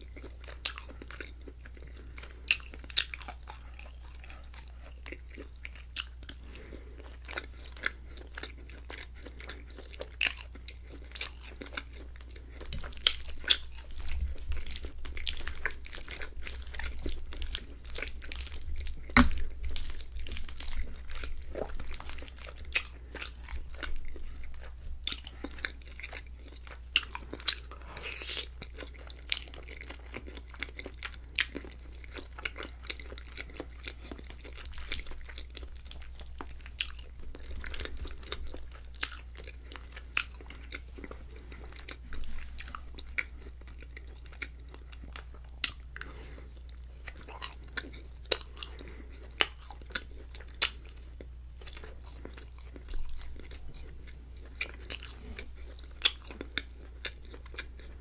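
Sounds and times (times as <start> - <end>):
steady low hum: 0.0 - 58.0
wet chewing and mouth sounds: 0.0 - 58.0.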